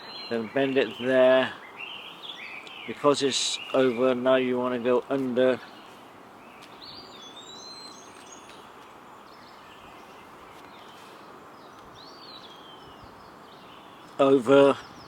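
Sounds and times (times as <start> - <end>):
outdoor background hiss: 0.0 - 15.0
small bird singing: 0.0 - 15.0.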